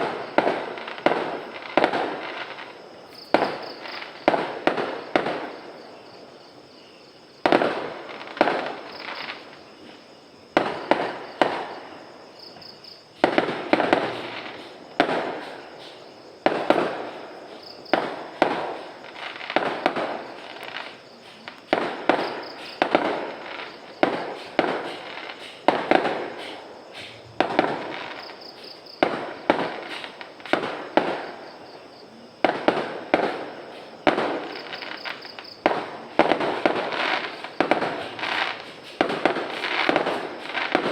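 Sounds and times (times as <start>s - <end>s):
fireworks exploding: 0.0s - 6.4s, 7.4s - 31.8s, 32.4s - 40.9s.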